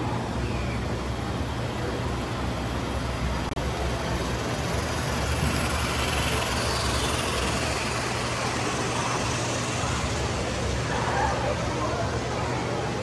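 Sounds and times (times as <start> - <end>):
model train rumbling past: 0.0 - 13.0.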